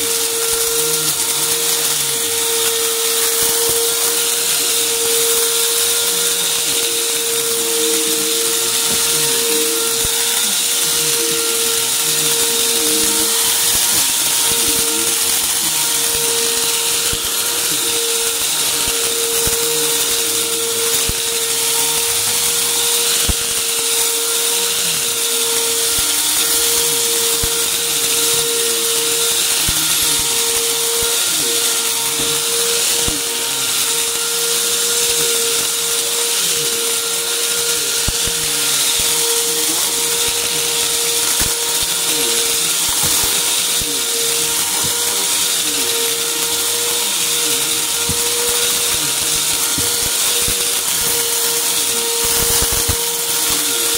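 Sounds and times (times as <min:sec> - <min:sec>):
vacuum cleaner running: 0:00.0 - 0:53.9
debris crackling in nozzle: 0:00.1 - 0:53.9.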